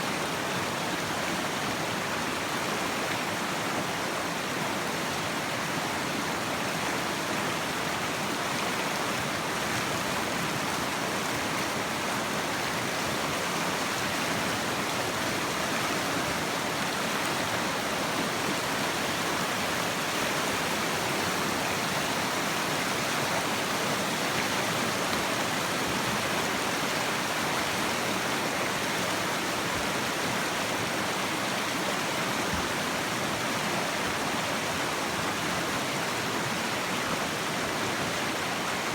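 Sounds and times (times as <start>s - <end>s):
river rapid rushing: 0.0s - 38.9s.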